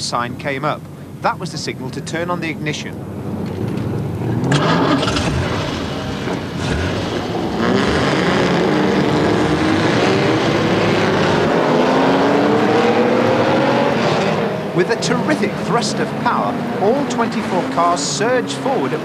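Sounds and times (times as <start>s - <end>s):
racing car engines revving: 2.0s - 19.0s
cars accelerating away: 3.3s - 19.0s.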